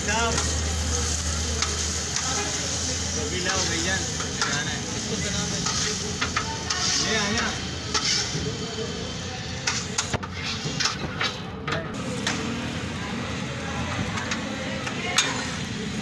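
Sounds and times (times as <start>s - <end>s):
voices: 0.0s - 16.0s
metal spatula scraping griddle: 0.1s - 8.6s, 9.5s - 12.6s, 14.0s - 15.7s.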